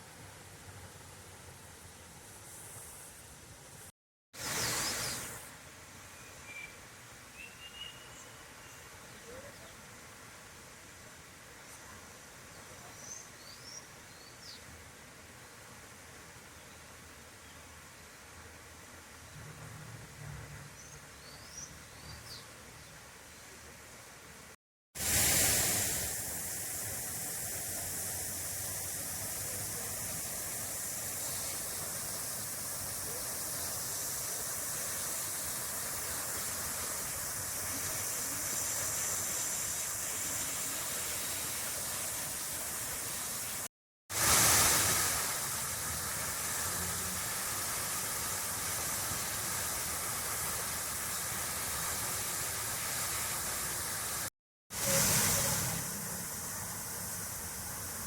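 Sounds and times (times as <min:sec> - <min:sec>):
fountain water splashing: 0:00.0 - 0:58.0.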